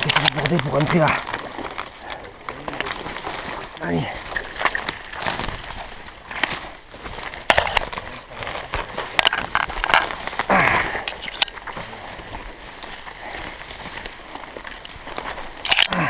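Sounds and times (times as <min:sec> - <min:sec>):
branches scraping: 0:00.0 - 0:16.0
footsteps through dry leaves: 0:00.0 - 0:16.0
twigs snapping: 0:00.0 - 0:16.0.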